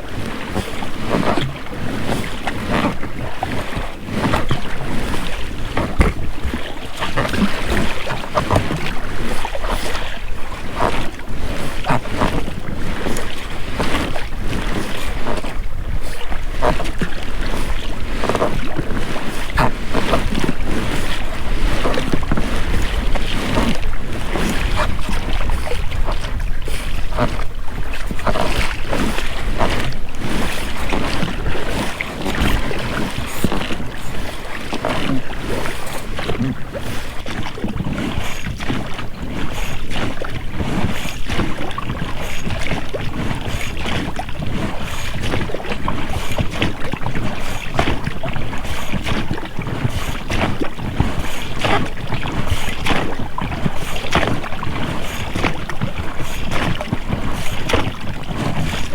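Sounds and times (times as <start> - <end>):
oars splashing in water: 0.0 - 58.9
steady water noise: 0.0 - 58.9
wind rumbling on microphone: 0.0 - 58.9
rubber rowlocks creaking: 0.1 - 58.9.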